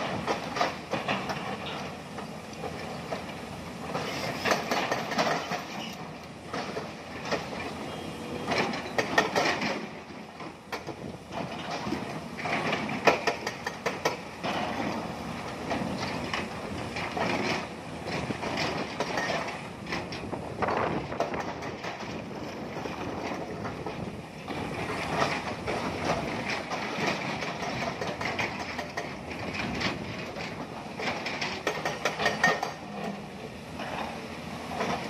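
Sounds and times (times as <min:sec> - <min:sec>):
machine engines running: 0:00.0 - 0:35.0.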